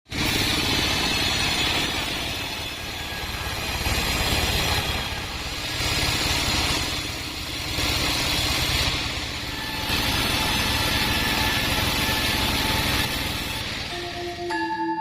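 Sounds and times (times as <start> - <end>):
low machine drone: 0.2 - 15.0.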